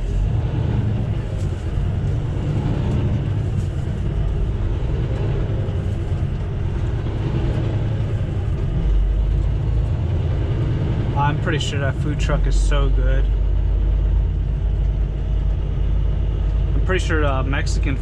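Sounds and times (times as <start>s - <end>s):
diesel truck engine drone: 0.0s - 18.0s
road noise: 0.0s - 18.0s.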